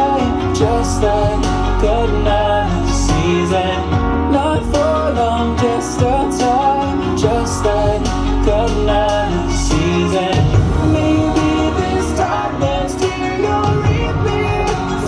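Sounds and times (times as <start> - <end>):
song with vocals and deep bass: 0.0 - 15.0.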